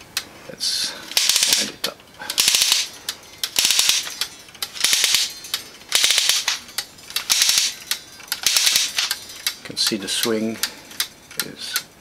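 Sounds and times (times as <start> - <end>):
watch winding ratchet clicks: 1.1 - 11.8.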